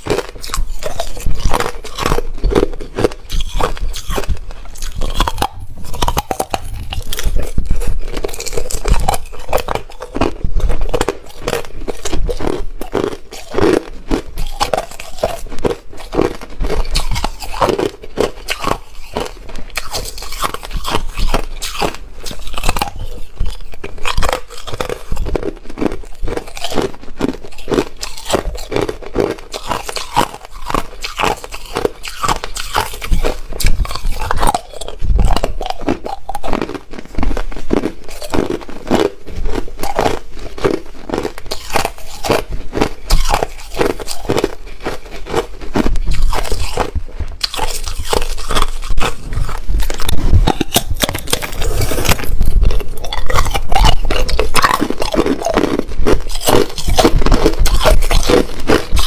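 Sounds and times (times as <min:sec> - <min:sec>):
ice being chewed and crunched: 0:00.0 - 0:59.0.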